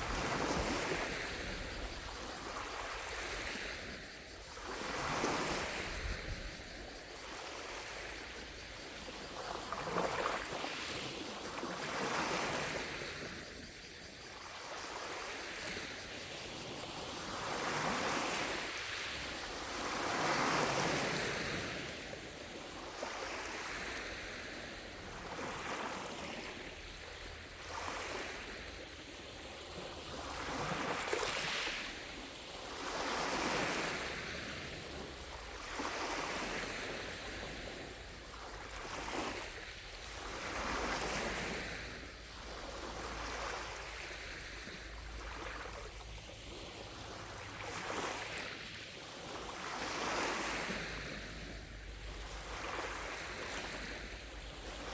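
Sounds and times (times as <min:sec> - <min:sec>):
lake waves lapping on shore: 0:00.0 - 0:13.6, 0:14.4 - 0:54.9.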